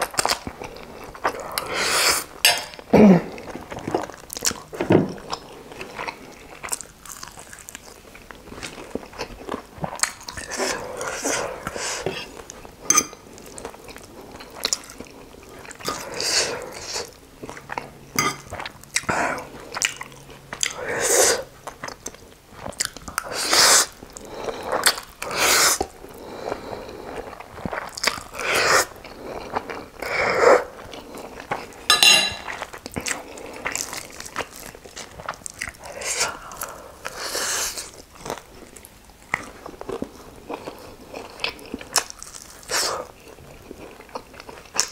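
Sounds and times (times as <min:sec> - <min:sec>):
eating noodles: 0:05.3 - 0:44.9.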